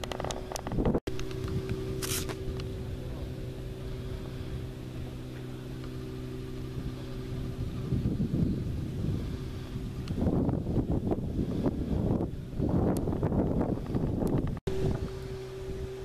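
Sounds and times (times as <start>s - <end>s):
low engine hum: 0.0s - 16.0s
wind rumbling on microphone: 0.0s - 16.0s.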